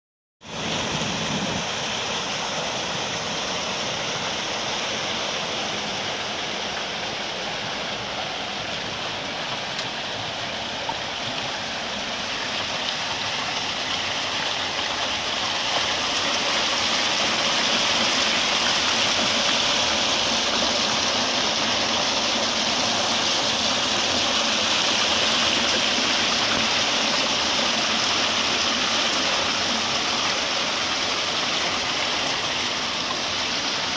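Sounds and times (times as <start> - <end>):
water rushing down stone channel: 0.4 - 33.9
water wheel churning: 0.4 - 33.9.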